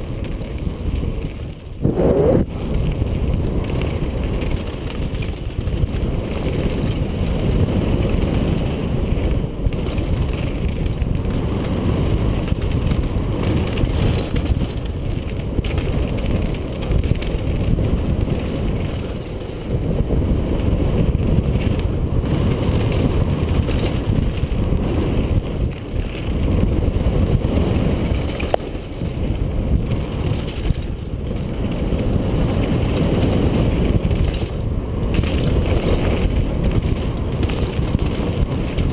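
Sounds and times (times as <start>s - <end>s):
tyres rolling over dirt and rock: 0.0s - 38.9s
wind rushing on microphone: 0.0s - 38.9s.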